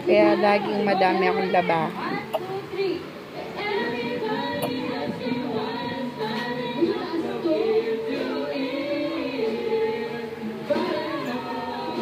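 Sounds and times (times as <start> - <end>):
voices singing together: 0.0 - 12.0.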